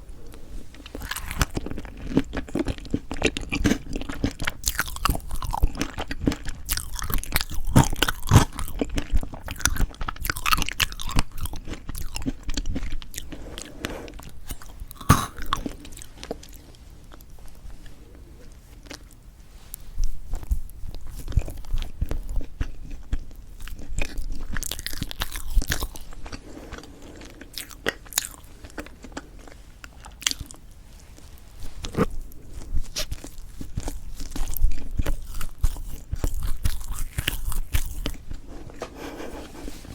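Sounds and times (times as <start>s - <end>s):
biting and chewing cake: 0.2s - 19.3s, 20.0s - 39.7s.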